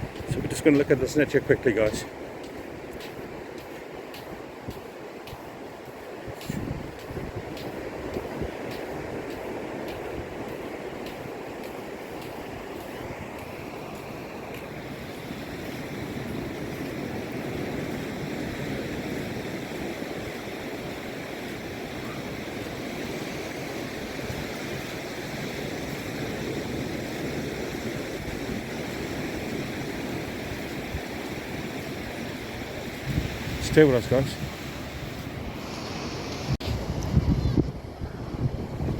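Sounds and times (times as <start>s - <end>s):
waves breaking on beach: 0.0s - 37.2s
wind blowing across microphone: 0.0s - 38.9s.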